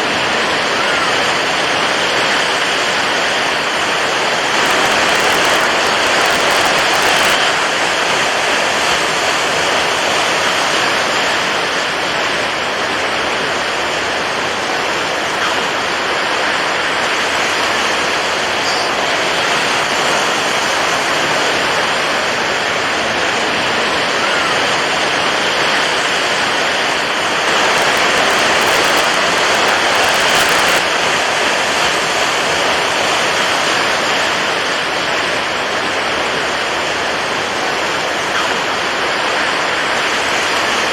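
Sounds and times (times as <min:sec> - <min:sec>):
water waves rushing: 0:00.0 - 0:40.9.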